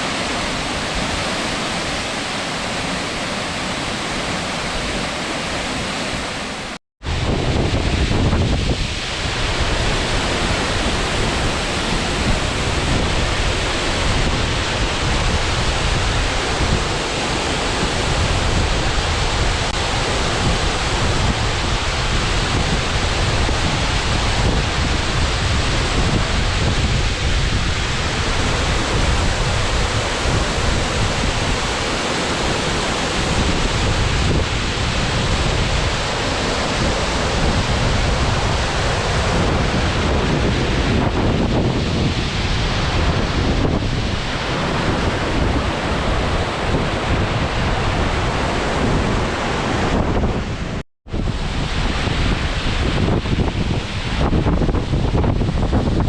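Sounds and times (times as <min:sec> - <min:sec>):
waterfall rushing: 0:00.0 - 0:55.8.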